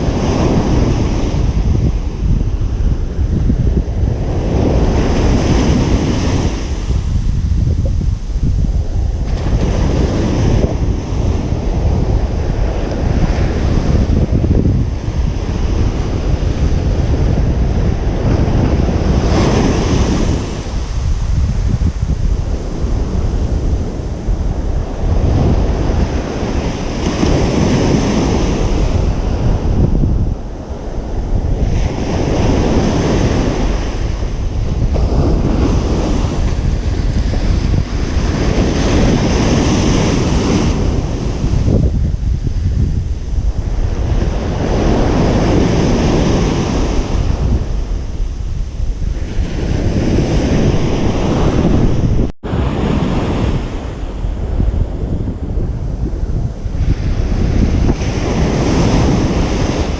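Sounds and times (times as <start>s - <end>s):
ocean surf breaking: 0.0s - 59.9s
wind rumble on microphone: 0.0s - 59.9s.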